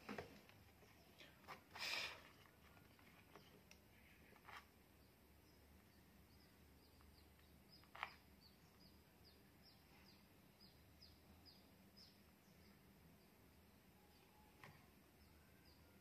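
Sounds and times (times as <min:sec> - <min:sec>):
small bird chirping: 0:00.6 - 0:16.0.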